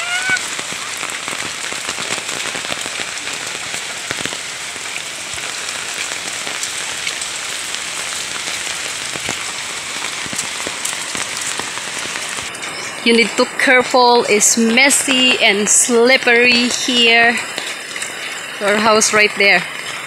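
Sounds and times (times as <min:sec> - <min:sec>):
rain falling on foliage: 0:00.0 - 0:20.0.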